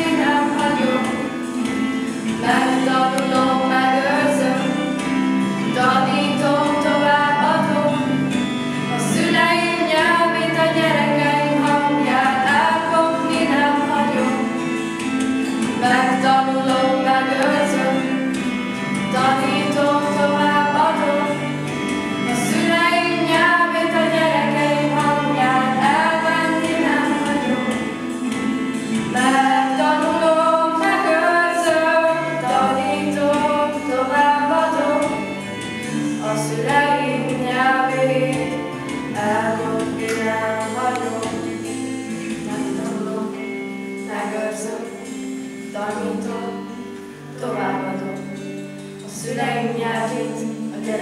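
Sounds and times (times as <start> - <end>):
children's choir singing: 0.0 - 51.0
held instrumental chords: 0.0 - 51.0.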